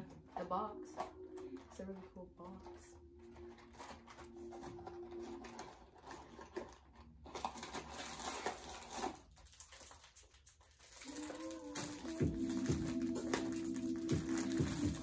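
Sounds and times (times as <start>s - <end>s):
plastic packet handled: 0.0s - 15.0s.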